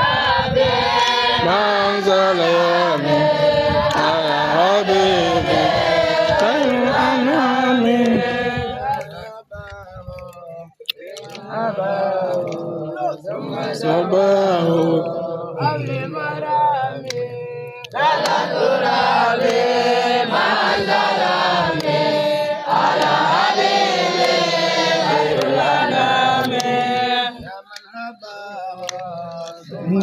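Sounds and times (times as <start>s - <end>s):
boys chanting in unison: 0.0s - 30.0s.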